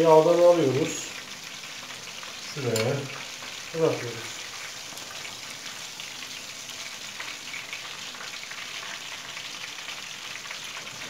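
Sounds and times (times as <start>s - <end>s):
eggplant frying in hot oil: 0.0s - 11.0s.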